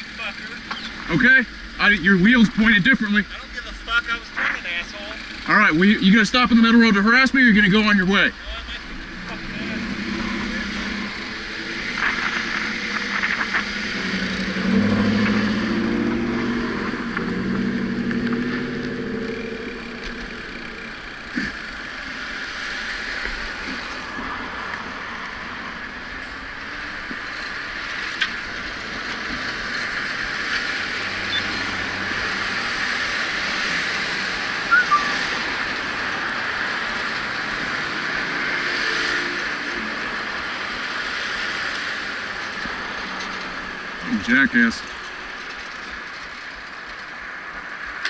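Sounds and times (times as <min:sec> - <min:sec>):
vehicle engine passing close: 0:00.0 - 0:46.1
road and traffic noise: 0:00.0 - 0:48.0.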